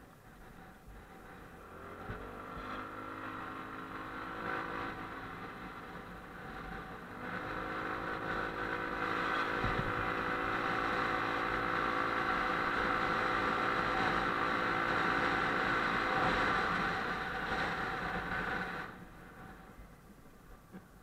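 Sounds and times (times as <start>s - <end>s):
rushing wind and road noise: 0.0s - 21.0s
motorbike engine running: 0.2s - 19.8s.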